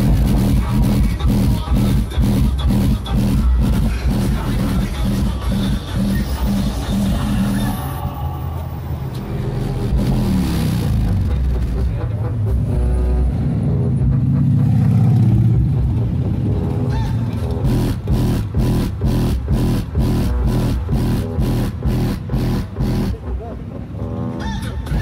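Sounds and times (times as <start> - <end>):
electronic music with heavy bass: 0.0 - 25.0.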